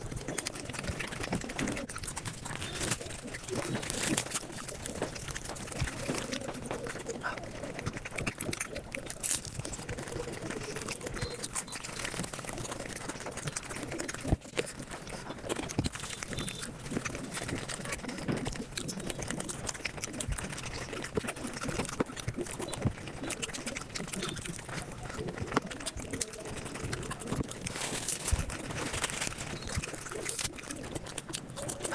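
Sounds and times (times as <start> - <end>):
sped-up chewing and crunching: 0.0 - 31.9.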